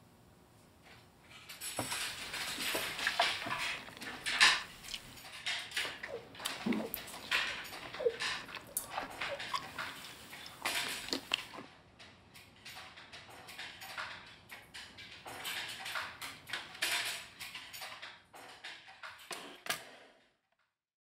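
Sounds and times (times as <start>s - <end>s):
utensils clattering on trays: 1.3s - 20.1s.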